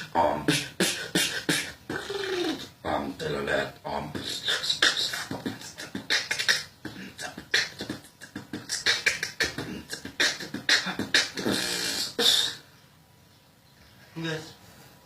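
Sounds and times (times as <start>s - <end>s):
person beatboxing: 0.0s - 12.6s
pitched vocal sound: 0.0s - 12.6s.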